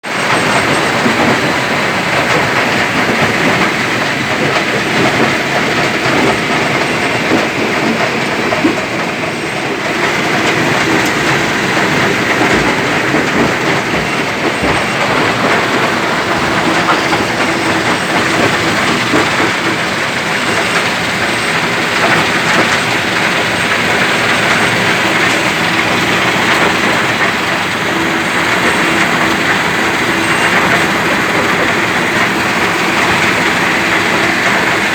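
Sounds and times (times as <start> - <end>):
stone crusher machine crushing rock: 0.1 - 34.9.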